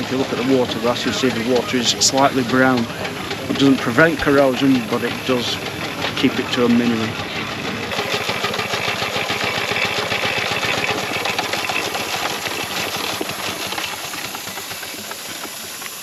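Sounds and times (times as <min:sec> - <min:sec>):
steam engine beat: 0:00.0 - 0:16.0.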